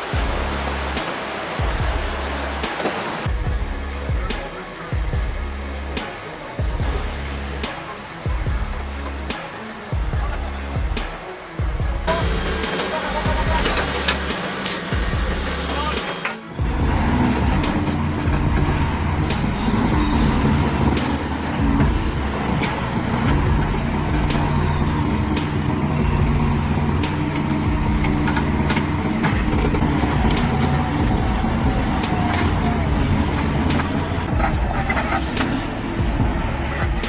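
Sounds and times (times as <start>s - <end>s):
heavy diesel machinery running: 0.0s - 37.0s.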